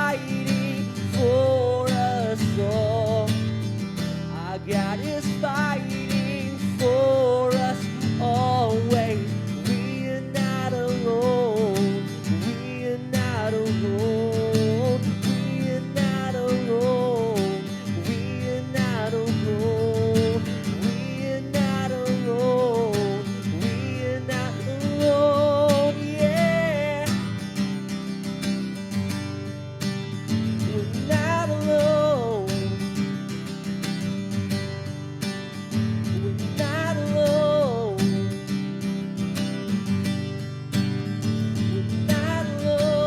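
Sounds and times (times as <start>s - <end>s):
strummed acoustic guitar: 0.0s - 43.0s.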